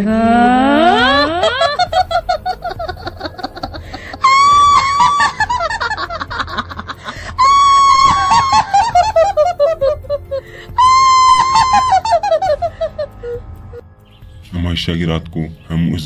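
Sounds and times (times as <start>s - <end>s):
woman cackling: 0.0s - 13.4s
woman shrieking laugh: 0.2s - 13.4s.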